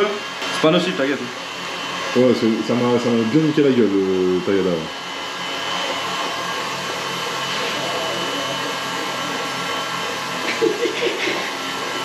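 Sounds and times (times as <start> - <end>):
electric mixer motor humming: 0.0 - 12.0.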